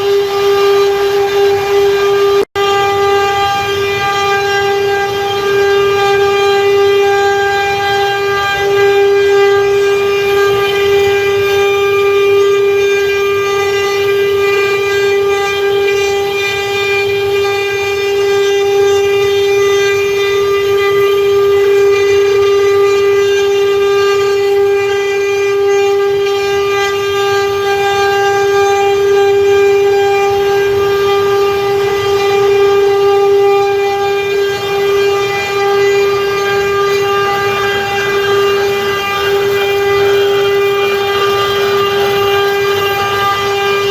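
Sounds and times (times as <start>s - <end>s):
router spindle whine: 0.0s - 43.9s.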